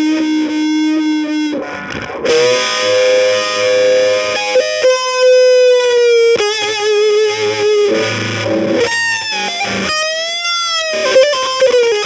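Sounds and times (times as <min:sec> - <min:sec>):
distorted electric guitar: 0:00.0 - 0:12.0.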